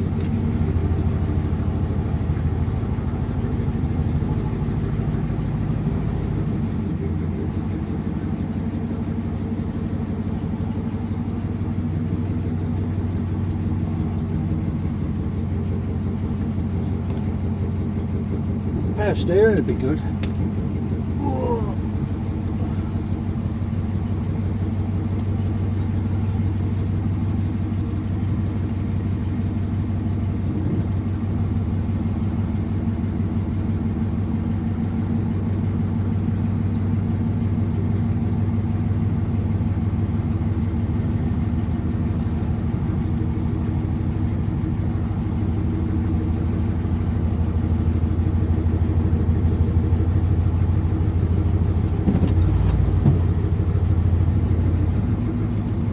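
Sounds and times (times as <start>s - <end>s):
car engine running at low speed: 0.0s - 55.9s.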